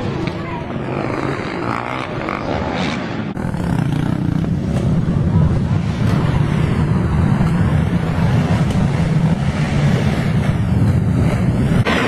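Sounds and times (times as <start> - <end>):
quad engines rumbling: 0.0 - 12.0.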